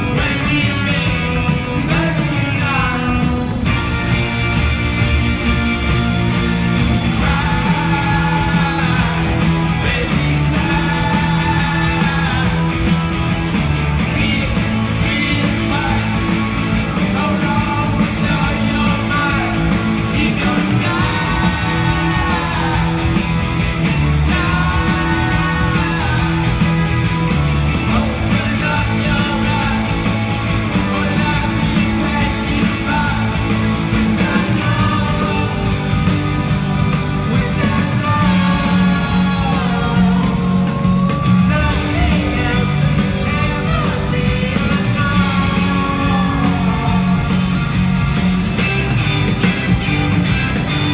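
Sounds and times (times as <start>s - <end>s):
lead singer singing: 0.0s - 4.2s, 7.0s - 48.6s
bass guitar: 0.0s - 50.9s
drums: 0.0s - 50.9s
electric guitars: 0.0s - 50.9s.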